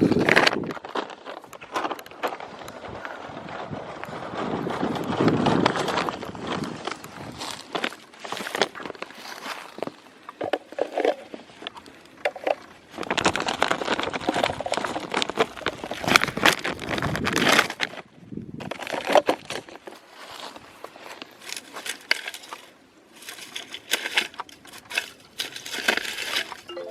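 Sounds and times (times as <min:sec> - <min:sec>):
trash crackling and rustling: 0:00.0 - 0:26.9.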